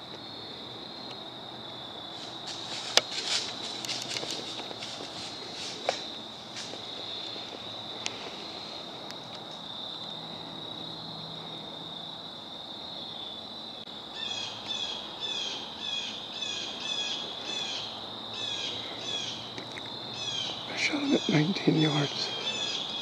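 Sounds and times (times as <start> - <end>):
insect trilling: 0.0 - 23.0.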